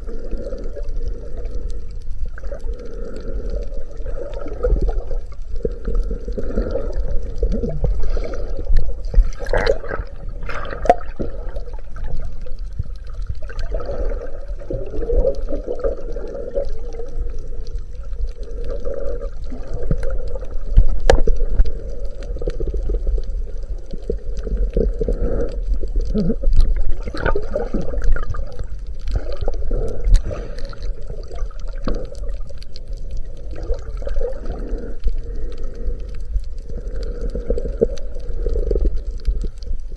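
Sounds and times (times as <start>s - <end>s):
low underwater rumble: 0.0s - 39.9s
water sloshing and rushing: 2.4s - 17.4s, 18.2s - 35.7s.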